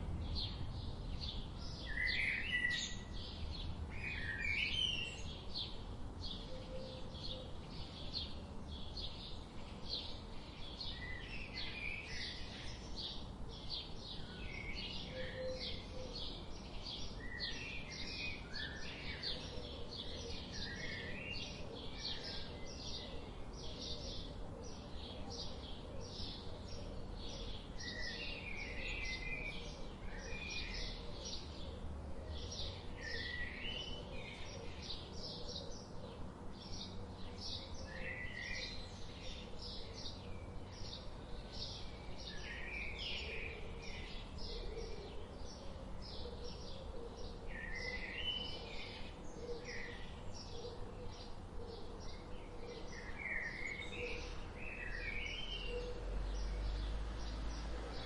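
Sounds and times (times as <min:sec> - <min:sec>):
low background noise: 0:00.0 - 0:58.0.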